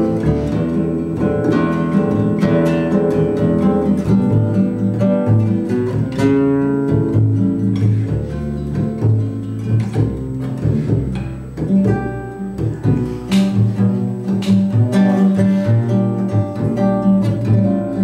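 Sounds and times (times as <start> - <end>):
acoustic guitar: 0.0 - 18.0
plucked double bass: 0.0 - 18.0.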